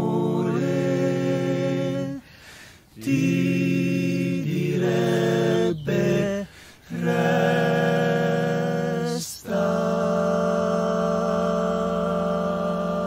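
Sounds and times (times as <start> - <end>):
male vocal quartet singing chords: 0.0 - 13.0.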